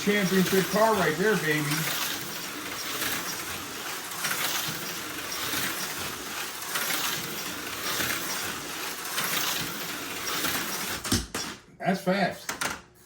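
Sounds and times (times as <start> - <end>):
slot car motor buzzing and rattling: 0.0 - 11.2.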